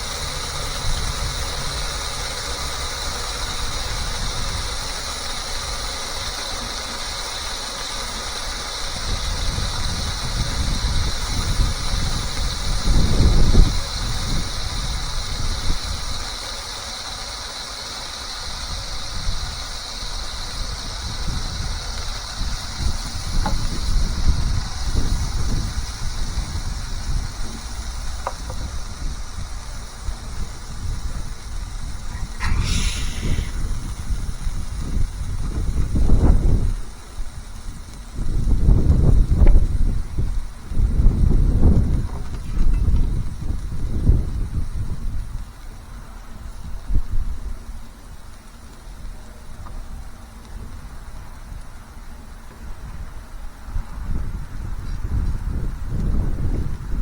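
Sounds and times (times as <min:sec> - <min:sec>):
burger sizzling on a griddle: 0:00.0 - 0:57.0
low uneven rumble: 0:00.0 - 0:57.0.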